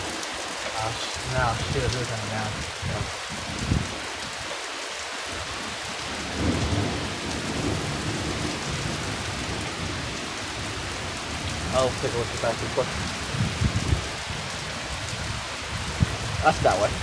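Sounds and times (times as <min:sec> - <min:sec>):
steady rain falling: 0:00.0 - 0:17.0
thunder rumbling: 0:00.8 - 0:04.1, 0:06.0 - 0:17.0.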